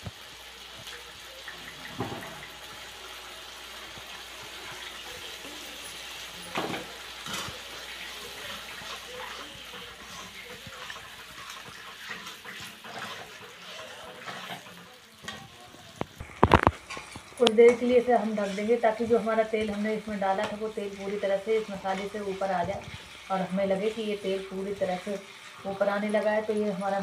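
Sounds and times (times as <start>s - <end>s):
spices sizzling in hot oil: 0.0s - 27.0s.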